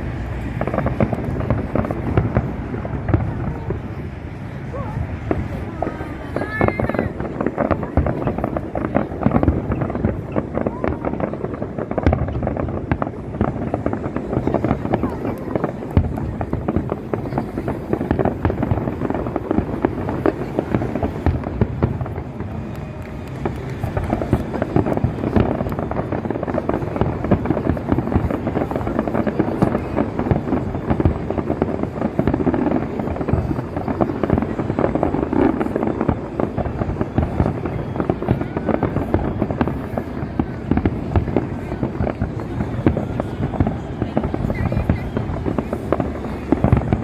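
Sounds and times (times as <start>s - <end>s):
fireworks bangs and crackling: 0.0s - 47.0s.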